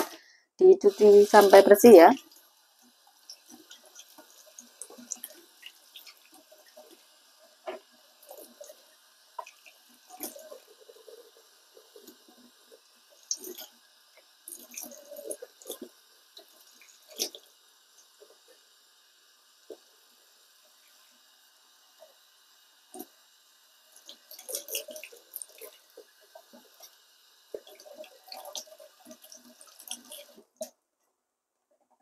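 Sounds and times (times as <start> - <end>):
tap water running into sink: 0.8 - 23.2, 23.9 - 30.7.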